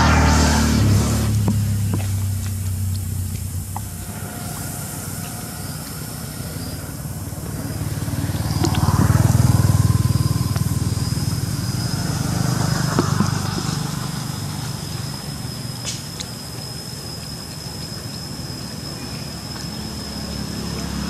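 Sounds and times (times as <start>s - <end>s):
vehicle engine passing by: 0.0s - 16.2s, 19.4s - 21.0s
thin high whine: 0.0s - 21.0s.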